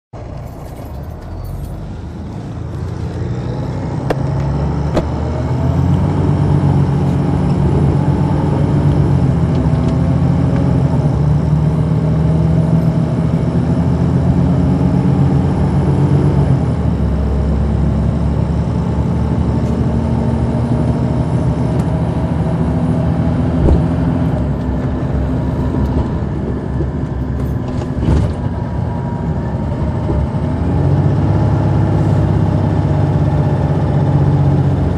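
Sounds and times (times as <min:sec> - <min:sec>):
bus diesel engine under load: 0:00.1 - 0:34.9.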